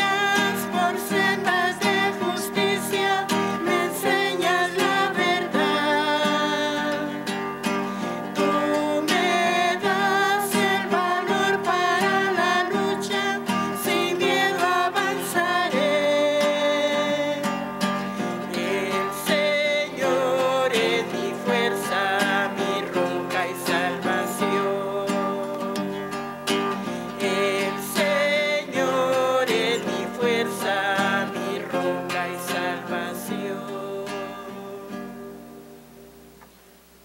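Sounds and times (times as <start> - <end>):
person singing a hymn: 0.0 - 35.7
acoustic guitar strumming: 0.0 - 36.8.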